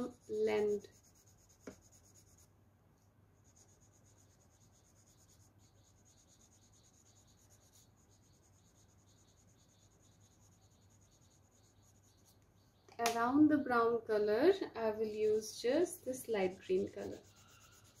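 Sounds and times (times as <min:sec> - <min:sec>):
colouring strokes scratching on paper: 0:00.0 - 0:02.5, 0:03.4 - 0:12.4, 0:14.9 - 0:18.0.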